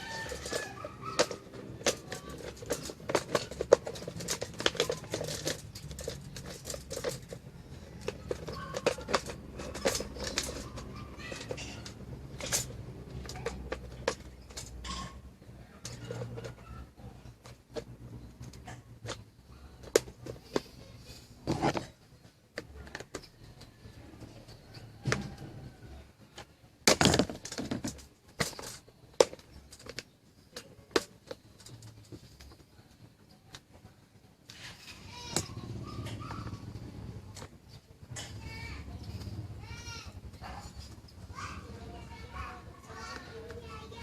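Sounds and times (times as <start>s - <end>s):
small hard parts clattering: 0.0s - 44.0s.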